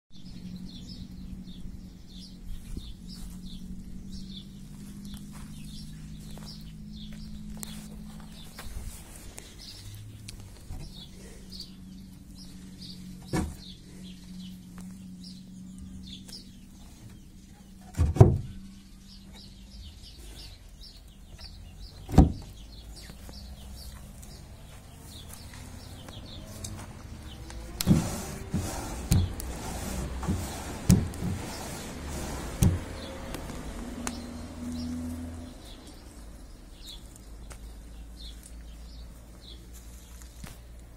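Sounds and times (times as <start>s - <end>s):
small birds chirping: 0.1s - 40.9s
low steady hum: 0.2s - 40.9s.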